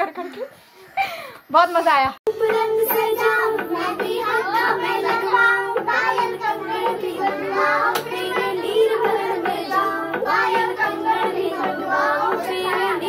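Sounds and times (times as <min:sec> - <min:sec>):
devotional singing: 0:02.3 - 0:13.0
held instrumental tone: 0:02.3 - 0:13.0.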